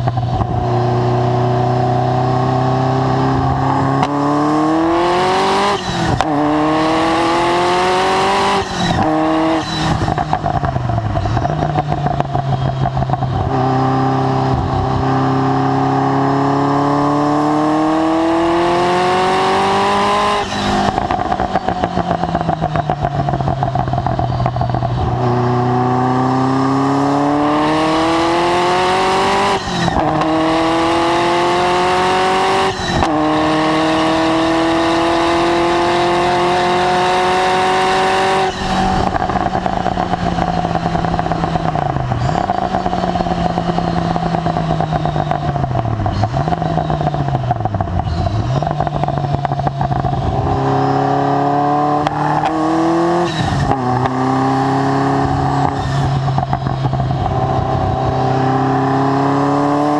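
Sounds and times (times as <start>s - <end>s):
exhaust popping on overrun: 0.0s - 59.9s
sports car engine revving: 0.0s - 59.9s.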